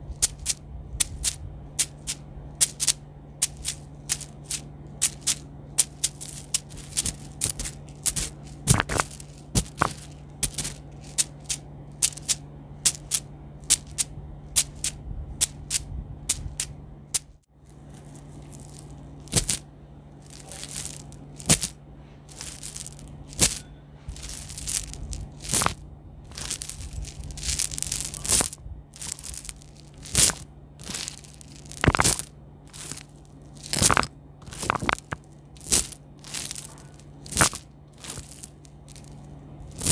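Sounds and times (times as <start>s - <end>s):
crunching crackles: 0.0s - 39.9s
steady low hum: 0.0s - 39.9s.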